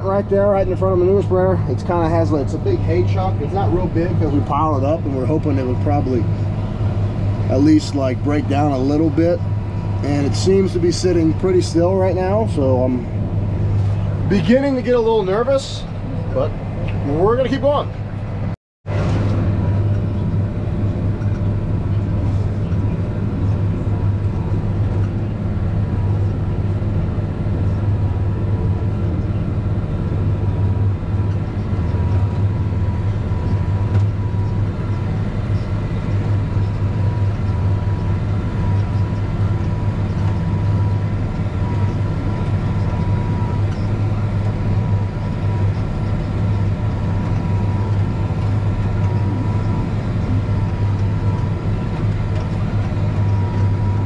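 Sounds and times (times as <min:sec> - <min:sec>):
thin steady whine: 0:00.0 - 0:54.0
tractor engine running under load: 0:00.0 - 0:54.0.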